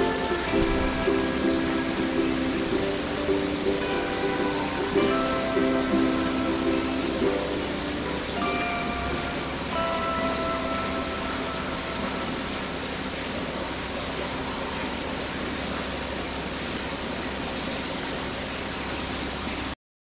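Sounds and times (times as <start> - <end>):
held music notes: 0.0 - 17.0
steady hiss: 0.0 - 19.8.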